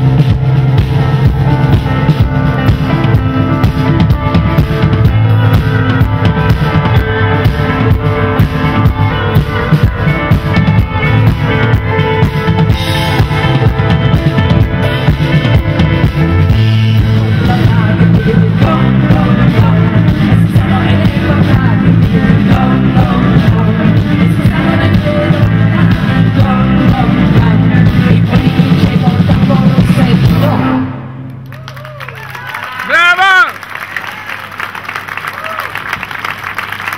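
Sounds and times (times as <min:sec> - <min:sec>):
drum kit beat: 0:00.0 - 0:30.6
electric bass: 0:00.0 - 0:32.1.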